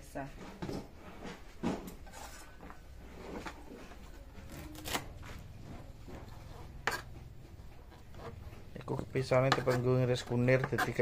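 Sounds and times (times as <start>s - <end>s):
rustling of kitchen things: 0.0s - 11.0s.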